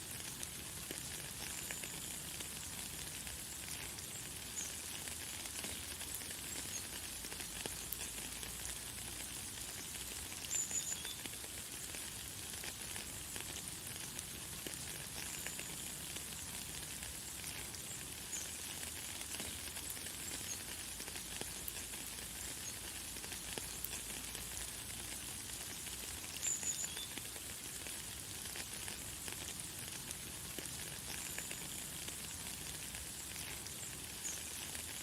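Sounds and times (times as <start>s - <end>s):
light rain falling: 0.0s - 35.0s.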